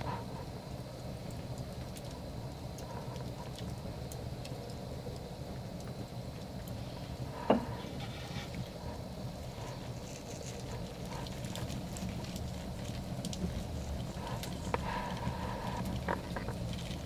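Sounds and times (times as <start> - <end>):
salt pattering on dough: 0.0 - 17.0.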